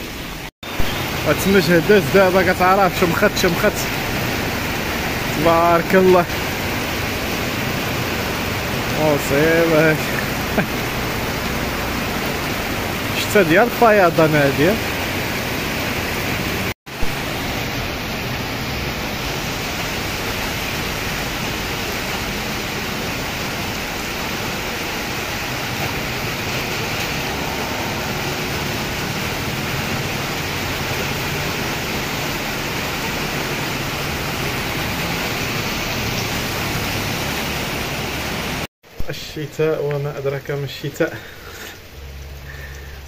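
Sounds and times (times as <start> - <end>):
heavy rain on flooded street: 0.0 - 43.0.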